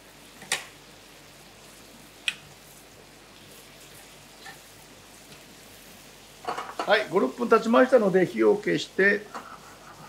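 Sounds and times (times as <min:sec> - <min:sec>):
faint pan simmering: 0:00.0 - 0:10.0.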